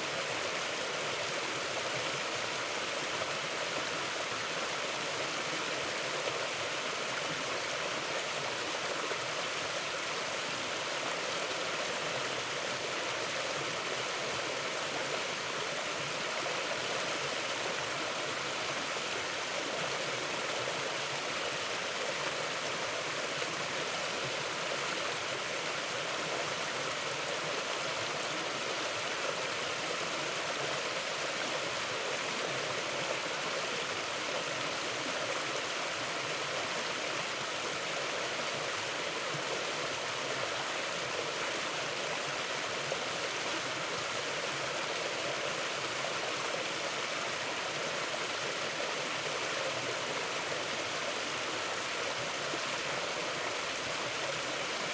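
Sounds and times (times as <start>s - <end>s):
river flowing over rocks: 0.0s - 54.9s.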